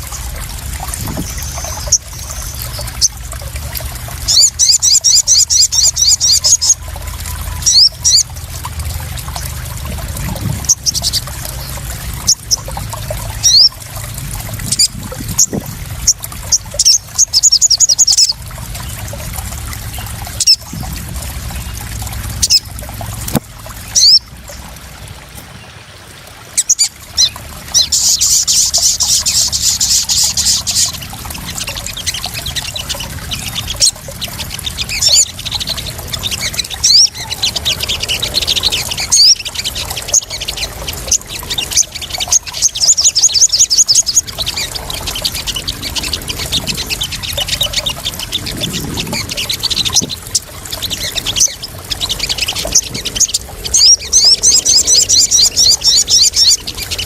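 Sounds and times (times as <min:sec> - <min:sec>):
water trickling and splashing: 0:00.0 - 0:57.0
sunbird chirping and trilling: 0:01.0 - 0:03.4, 0:04.2 - 0:09.0, 0:10.4 - 0:13.8, 0:14.7 - 0:19.1, 0:19.9 - 0:20.8, 0:26.6 - 0:57.0.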